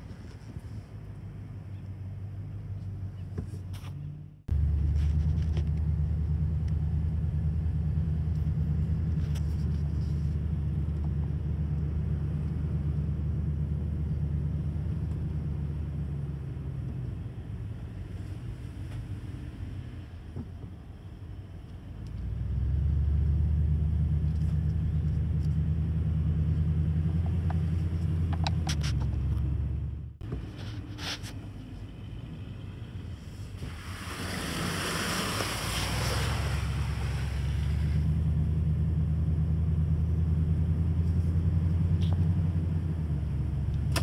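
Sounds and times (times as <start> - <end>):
pickup truck driving slowly: 4.1 - 44.0.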